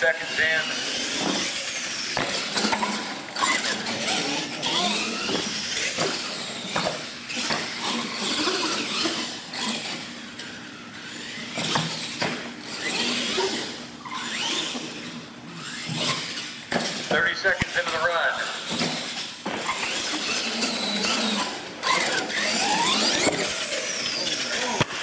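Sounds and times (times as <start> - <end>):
toy truck motor whining: 0.1 - 17.2, 18.4 - 25.0.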